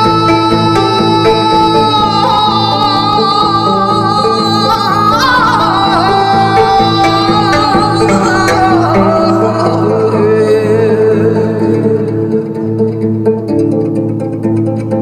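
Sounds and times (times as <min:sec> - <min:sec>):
held melody with wide vibrato: 0:00.0 - 0:13.5
repeated plucked-string notes: 0:00.0 - 0:15.0.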